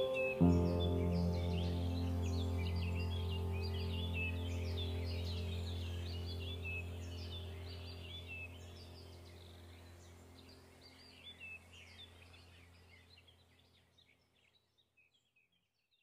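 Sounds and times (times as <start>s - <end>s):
low steady hum: 0.0s - 13.5s
birds chirping: 0.0s - 15.3s.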